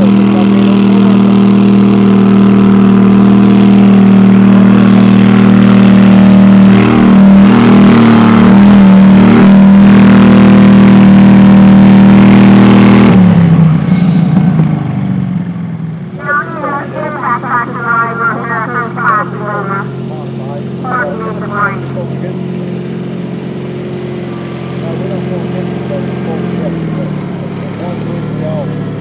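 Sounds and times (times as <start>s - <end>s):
garden tractor engine droning: 0.0s - 29.0s.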